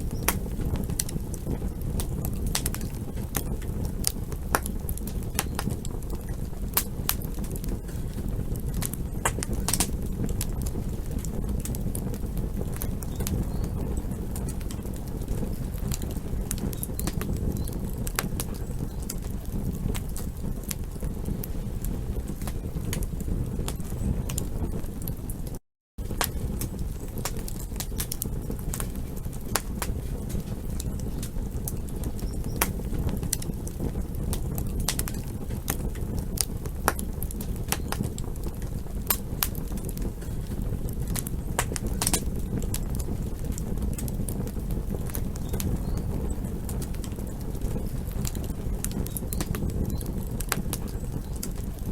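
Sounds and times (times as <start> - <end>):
campfire burning: 0.0 - 51.9
wood crackling and popping: 0.0 - 51.9.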